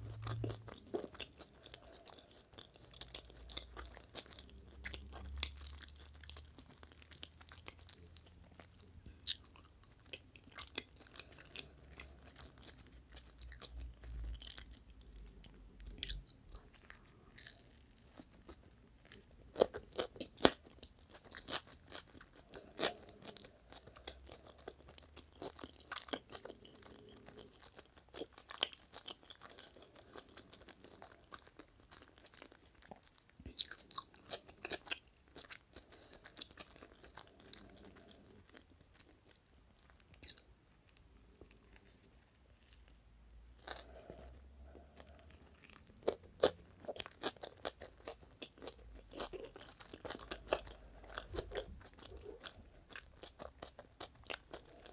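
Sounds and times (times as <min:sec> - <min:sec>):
chewing crunchy sandwich: 0:00.0 - 0:54.9.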